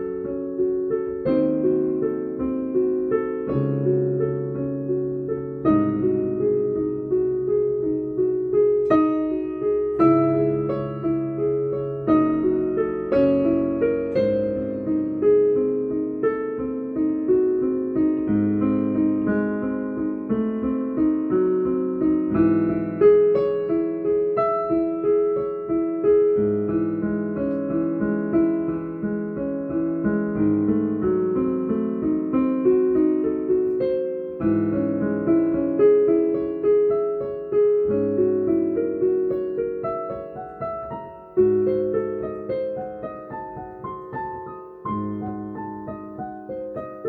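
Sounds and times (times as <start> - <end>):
piano playing broken chords: 0.0 - 47.0.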